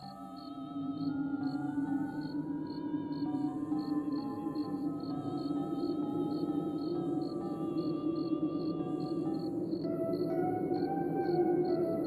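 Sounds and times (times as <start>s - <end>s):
eerie ambient drone music: 0.0s - 12.0s.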